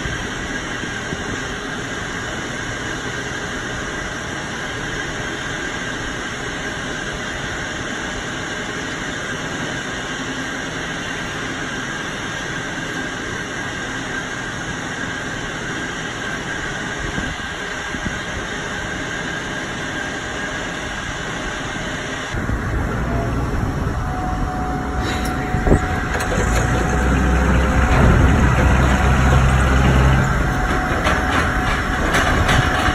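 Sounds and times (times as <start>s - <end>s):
high thin machinery whine: 0.0s - 32.9s
machinery hum: 0.0s - 32.9s.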